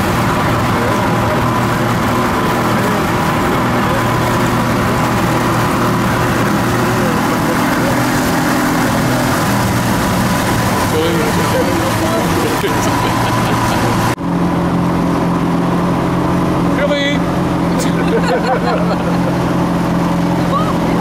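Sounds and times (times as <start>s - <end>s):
outboard motor running: 0.0s - 21.0s
water rushing: 0.0s - 21.0s.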